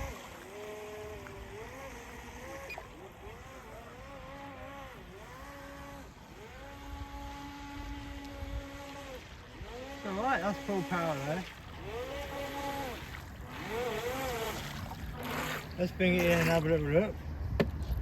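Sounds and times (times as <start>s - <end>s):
electric motor whining: 0.0s - 17.1s.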